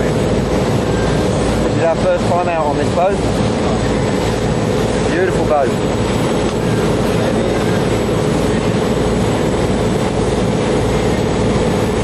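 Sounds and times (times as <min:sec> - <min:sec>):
boat engines droning: 0:00.0 - 0:12.0
rush of wind and water: 0:00.0 - 0:12.0.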